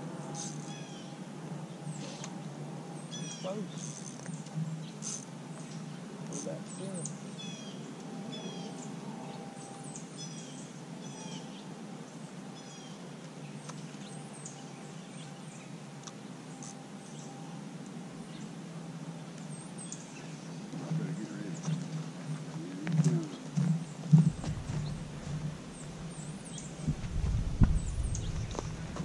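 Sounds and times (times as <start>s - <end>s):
low outdoor background hum: 0.0s - 29.0s
small birds chirping: 0.3s - 17.6s, 18.2s - 29.0s.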